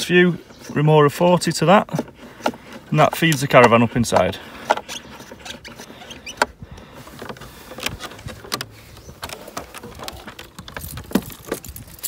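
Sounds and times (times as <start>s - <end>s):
plug handled against plastic panel: 1.7s - 11.7s.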